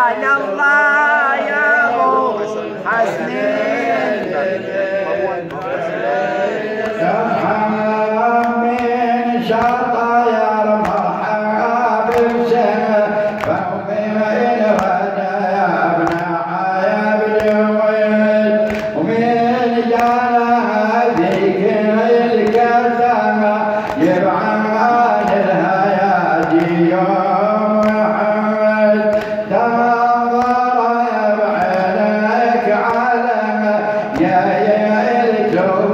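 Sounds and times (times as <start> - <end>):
man chanting into a microphone: 0.0 - 35.9.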